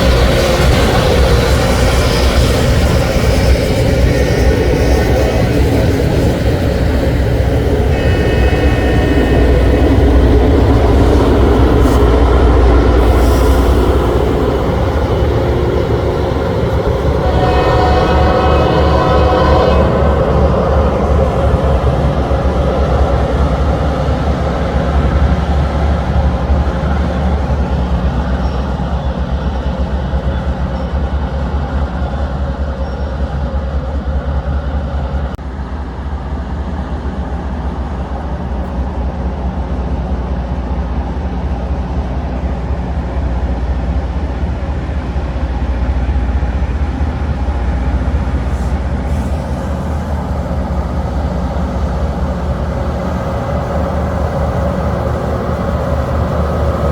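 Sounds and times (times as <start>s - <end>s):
rail grinder rumbling: 0.0s - 35.3s, 36.0s - 56.9s.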